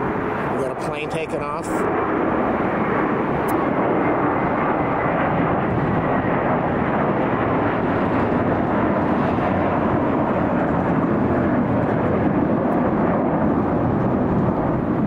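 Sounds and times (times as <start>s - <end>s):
jet airliner taking off: 0.0s - 15.0s.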